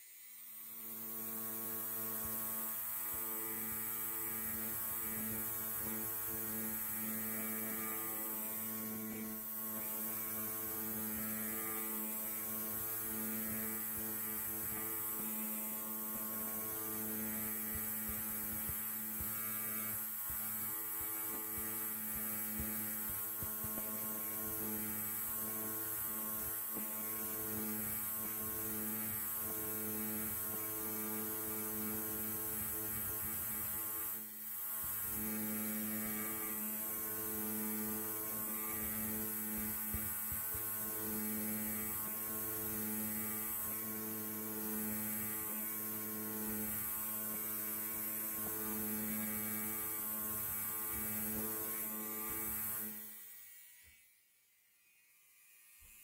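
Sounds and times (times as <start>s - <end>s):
electric hair clipper buzzing: 0.0s - 56.0s.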